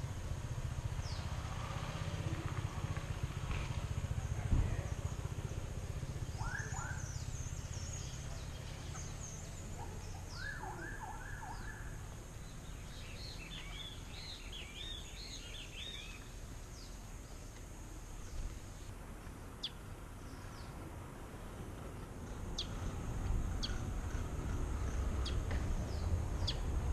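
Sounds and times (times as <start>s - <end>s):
songbirds chirping: 0.0s - 26.9s.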